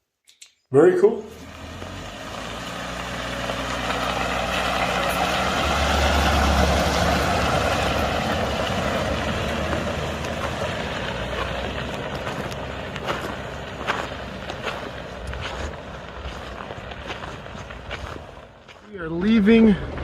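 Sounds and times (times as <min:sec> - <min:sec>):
off-road vehicle engine running: 0:00.8 - 0:20.0
tyre and road noise: 0:01.0 - 0:20.0.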